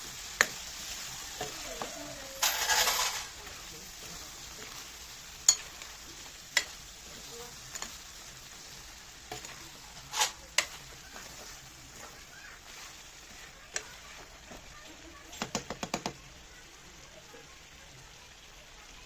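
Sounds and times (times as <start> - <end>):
gravy sizzling in a pan: 0.0 - 19.0.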